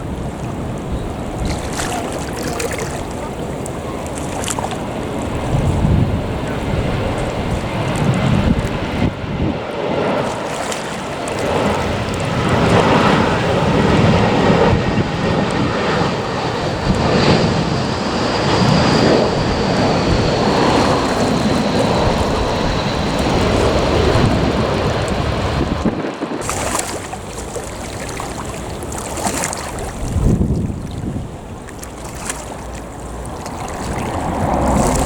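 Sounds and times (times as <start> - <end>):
distant jet engine rumble: 0.0 - 35.0
surf: 0.0 - 35.0
wind: 0.0 - 35.0.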